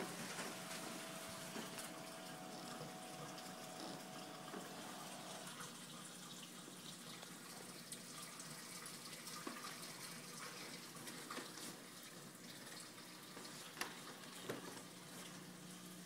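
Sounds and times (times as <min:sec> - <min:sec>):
water trickling in aquarium: 0:00.3 - 0:16.0.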